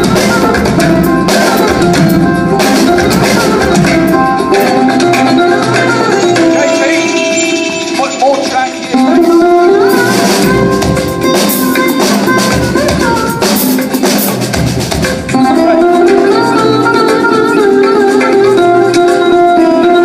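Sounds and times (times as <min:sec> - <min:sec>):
drum kit and percussion: 0:00.0 - 0:20.0
melodic backing music: 0:00.0 - 0:20.0.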